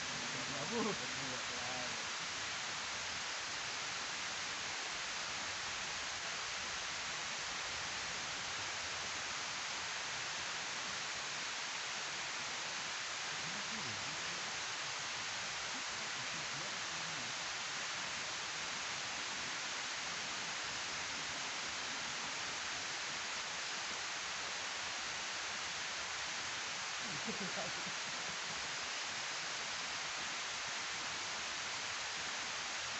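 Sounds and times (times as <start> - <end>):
water rushing down a weir: 0.0 - 32.9.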